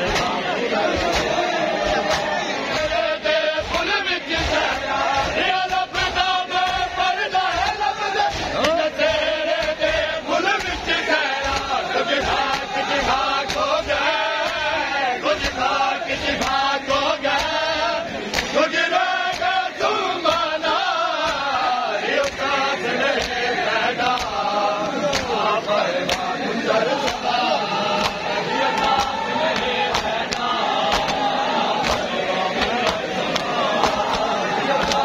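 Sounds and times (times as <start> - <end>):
chest-beating slaps: 0.0 - 35.0
crowd of men chanting: 0.0 - 35.0.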